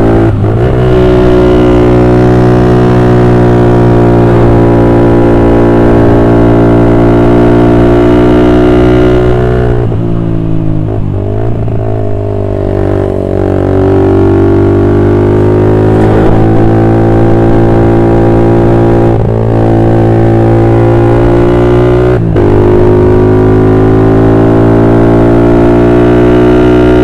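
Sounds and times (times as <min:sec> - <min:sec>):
motorcycle engine while riding: 0:00.0 - 0:27.0.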